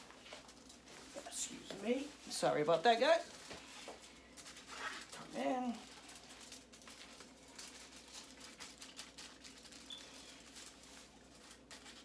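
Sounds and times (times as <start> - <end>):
foil crinkling and clicking: 0.0 - 12.0.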